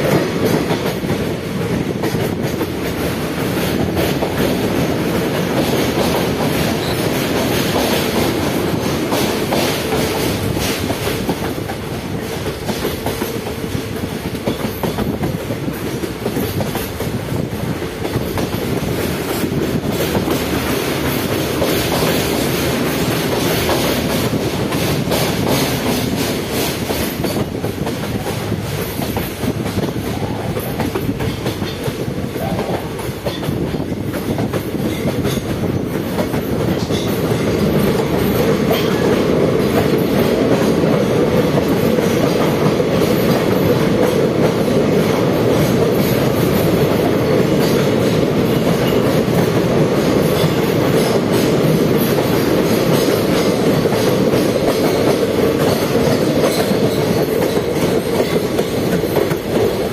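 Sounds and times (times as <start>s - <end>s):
clickety-clack over rail joints: 0.0s - 59.9s
train wheels rumbling on rails: 0.0s - 59.9s.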